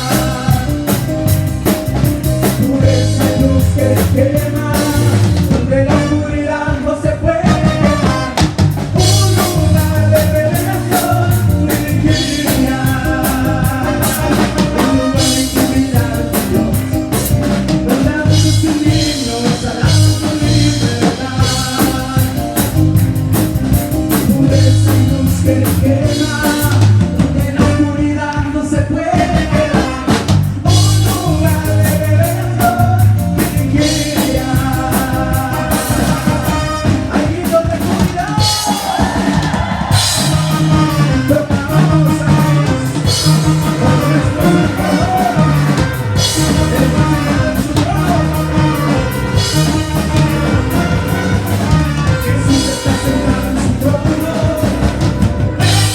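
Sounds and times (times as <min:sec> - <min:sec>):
drum kit: 0:00.0 - 0:55.9
person singing: 0:00.0 - 0:55.9
worship band playing: 0:00.0 - 0:55.9.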